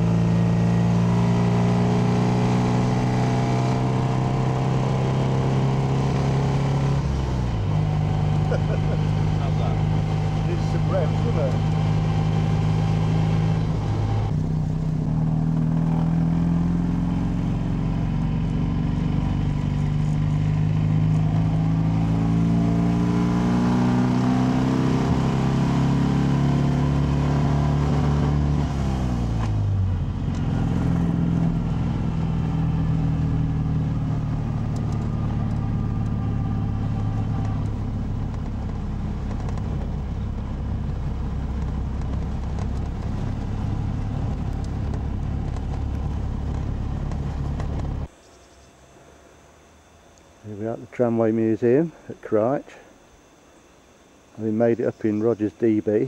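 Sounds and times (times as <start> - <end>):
car engine driving along: 0.0 - 48.2.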